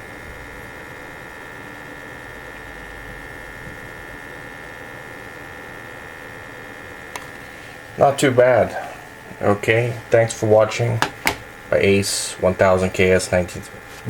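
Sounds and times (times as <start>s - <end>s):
electric fan whirring: 0.0s - 14.0s.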